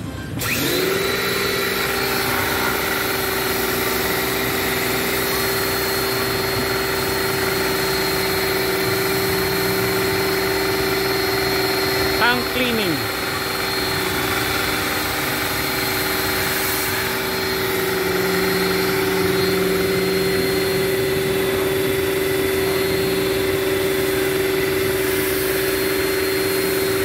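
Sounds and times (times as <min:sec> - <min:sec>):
machine motor hum: 0:00.2 - 0:27.0.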